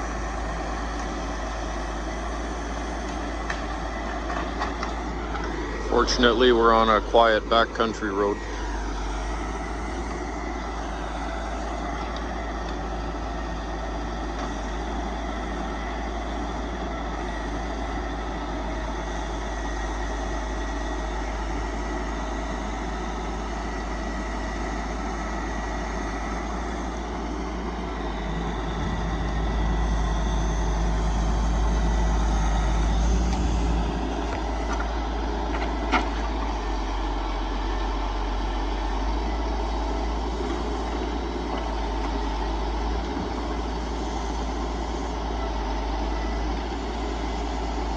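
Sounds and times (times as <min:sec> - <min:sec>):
truck diesel engine running: 0:00.0 - 0:47.9.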